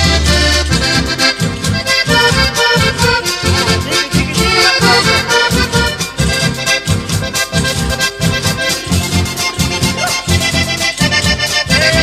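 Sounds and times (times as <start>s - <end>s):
accordion playing over steady beat: 0.0s - 12.0s.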